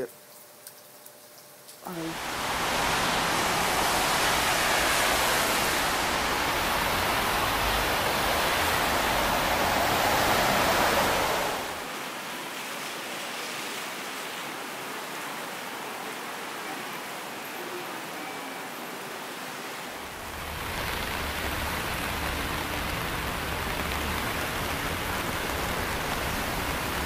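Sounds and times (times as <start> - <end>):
heavy rain pouring: 1.9 - 17.4, 19.2 - 27.0.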